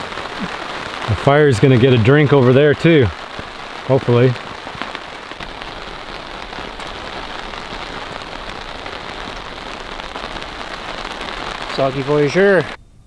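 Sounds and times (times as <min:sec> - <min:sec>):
steady rain falling: 0:00.0 - 0:12.8.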